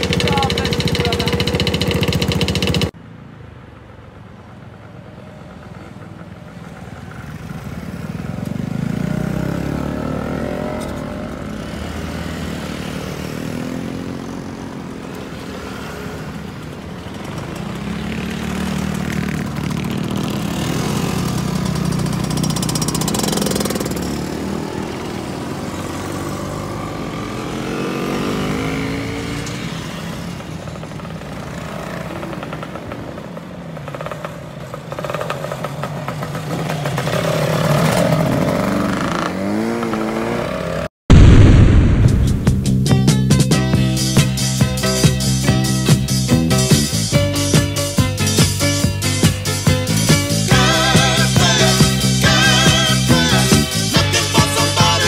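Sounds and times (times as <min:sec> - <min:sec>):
motor scooters passing by: 0:00.0 - 0:40.9, 0:48.3 - 0:55.0.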